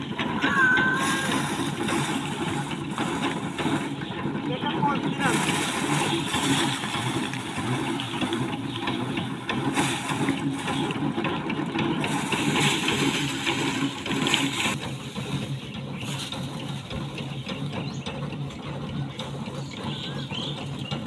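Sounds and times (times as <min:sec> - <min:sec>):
rice stalks crackling and rattling: 0:00.0 - 0:21.0
thresher drum whirring: 0:00.0 - 0:21.0.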